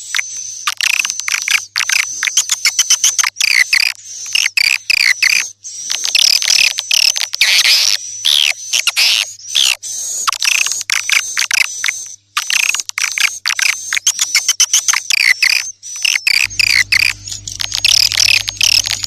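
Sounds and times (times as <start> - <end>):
swiftlets chittering and chirping: 0.1 - 19.0.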